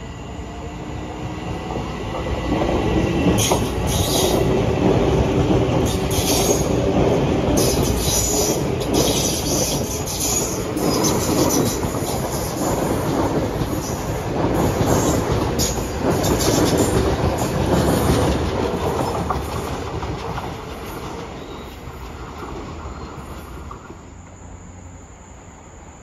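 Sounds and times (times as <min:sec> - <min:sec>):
train wheels clacking over rails: 0:01.6 - 0:24.3.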